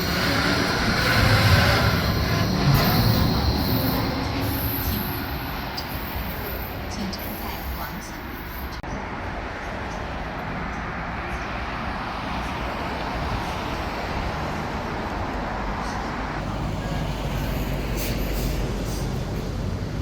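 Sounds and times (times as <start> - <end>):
tram wheels rumbling on rail: 0.0 - 20.0.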